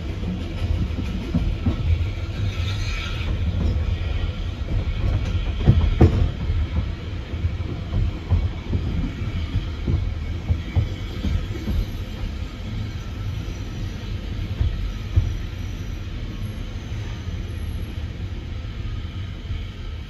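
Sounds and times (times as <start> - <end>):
railway carriage wheels rumbling: 0.0 - 20.0.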